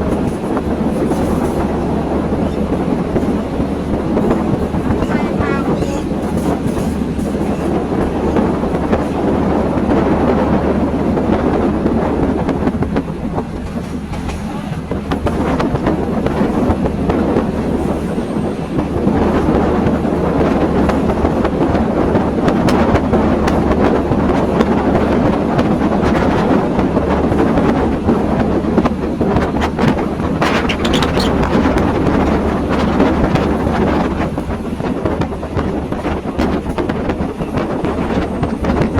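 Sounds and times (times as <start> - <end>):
train rumbling and rattling: 0.0 - 38.9.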